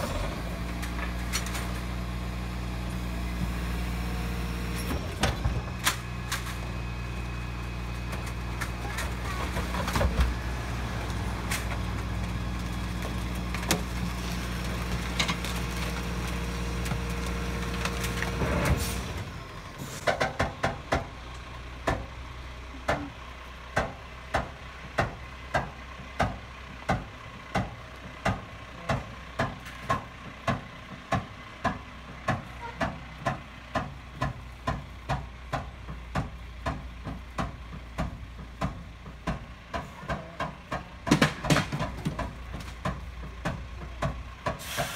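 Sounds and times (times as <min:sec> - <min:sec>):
garbage truck diesel engine running: 0:00.0 - 0:44.9.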